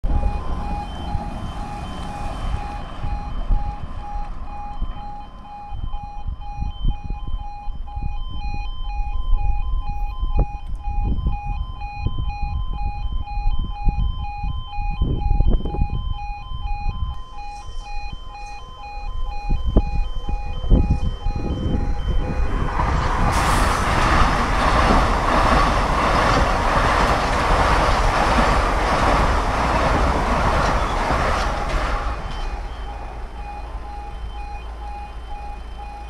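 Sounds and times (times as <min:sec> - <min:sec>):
level crossing alarm tones: 0:00.0 - 0:36.0.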